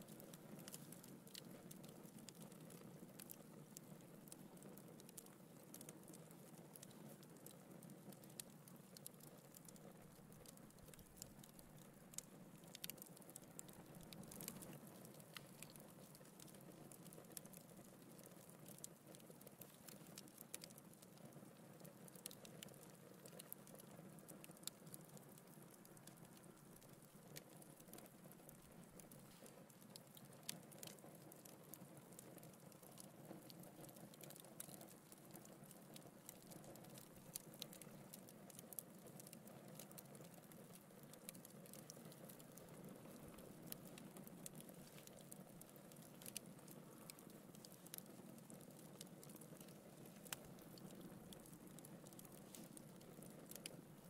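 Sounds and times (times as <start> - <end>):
fire crackling with pops: 0.0 - 54.0.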